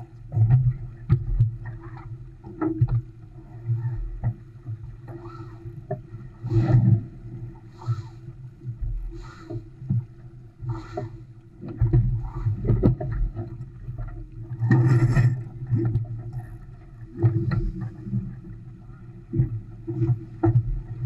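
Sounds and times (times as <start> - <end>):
water rushing along a hull: 0.0 - 21.0.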